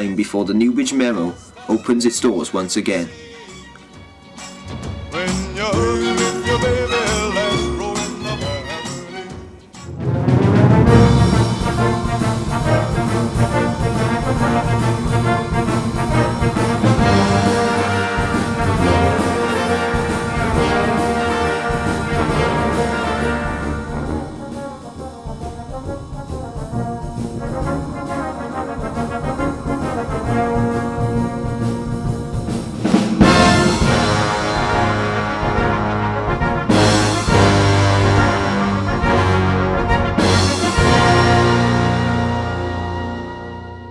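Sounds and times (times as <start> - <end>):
orchestral brass music: 0.0 - 43.9.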